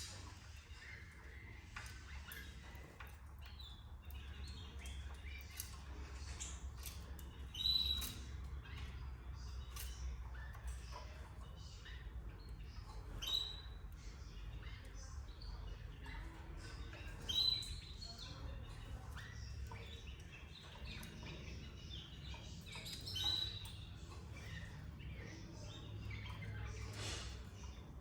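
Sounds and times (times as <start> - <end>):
canaries chirping: 0.0 - 28.0.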